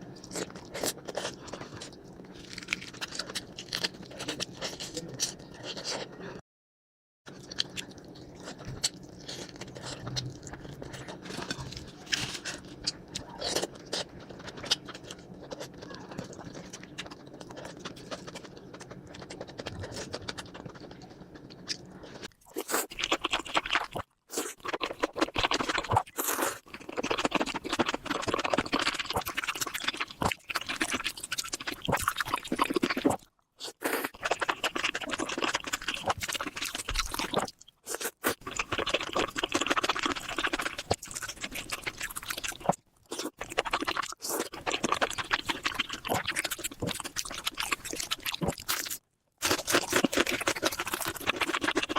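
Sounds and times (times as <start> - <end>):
person chewing crunchy food: 0.0 - 6.4, 7.3 - 51.9.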